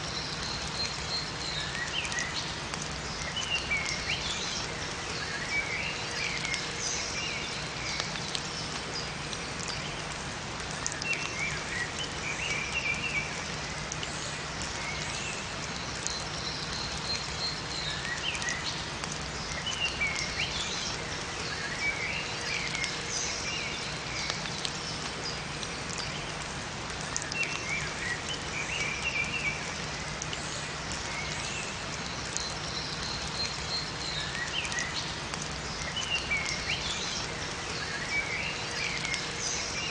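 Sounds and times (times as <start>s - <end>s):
songbirds chirping: 0.0s - 39.9s
steady rain in forest: 0.0s - 39.9s.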